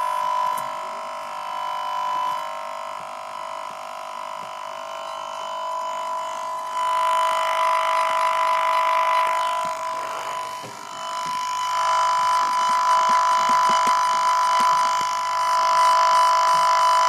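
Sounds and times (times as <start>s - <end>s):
computer high-pitched whine: 0.0s - 17.0s.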